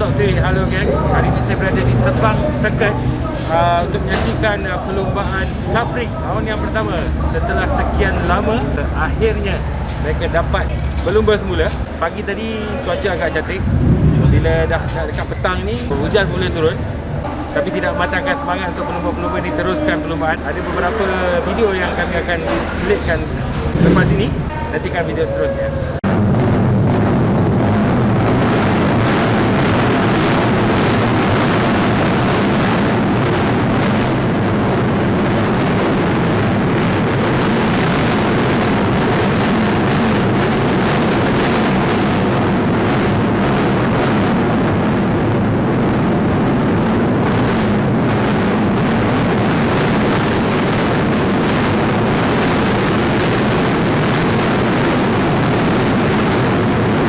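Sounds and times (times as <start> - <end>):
racing motorcycle engines: 0.0 - 57.0.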